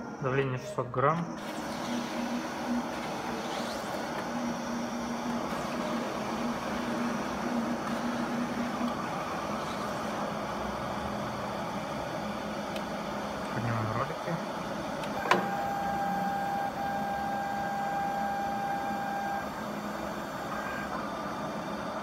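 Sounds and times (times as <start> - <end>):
cutting plotter mechanical hum: 0.0 - 22.0.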